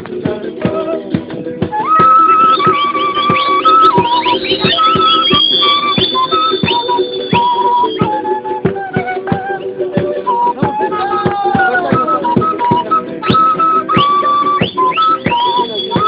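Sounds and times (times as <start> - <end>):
fast strumming of strings: 0.0 - 16.0
flute melody: 0.2 - 16.0.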